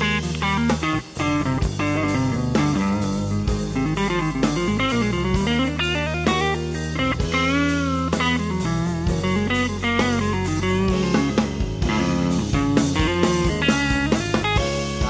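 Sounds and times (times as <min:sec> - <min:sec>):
bass guitar: 0:00.0 - 0:15.0
drums: 0:00.0 - 0:15.0
electric guitar runs: 0:00.0 - 0:15.0.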